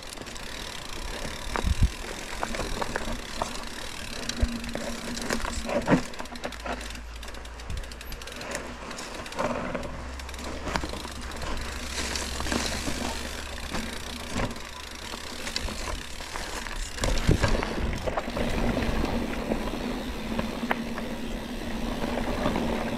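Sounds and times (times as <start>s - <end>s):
bike rattling: 0.0s - 22.9s
bike tyres rolling over dirt: 0.0s - 22.9s.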